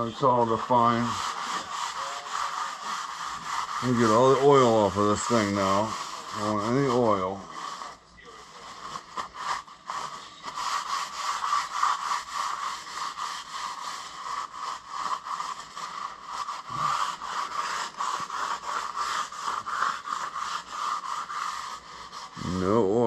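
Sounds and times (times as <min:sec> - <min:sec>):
rag wiping metal table: 0:00.0 - 0:23.0.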